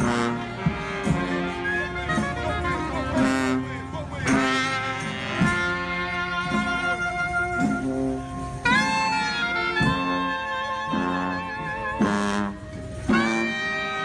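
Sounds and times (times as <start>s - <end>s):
brass band horns playing: 0.0s - 14.0s
drum beat: 0.0s - 14.0s.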